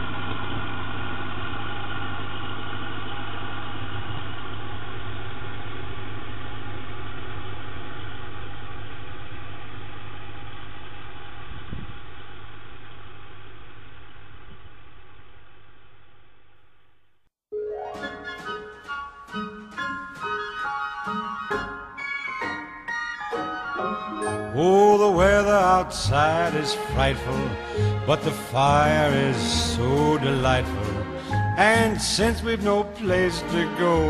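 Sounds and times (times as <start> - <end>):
tractor engine running: 0.0 - 16.8, 18.2 - 34.0.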